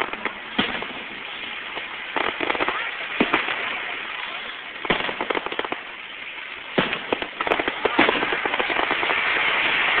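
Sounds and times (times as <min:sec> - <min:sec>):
fireworks crackling and popping: 0:00.0 - 0:10.0.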